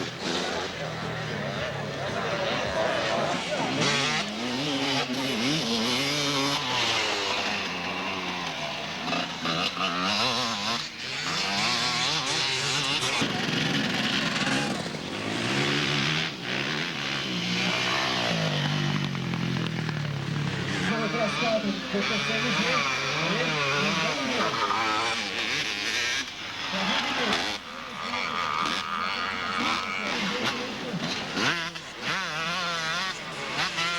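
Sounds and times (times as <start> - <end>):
off-road motorcycles revving past: 0.0 - 33.9.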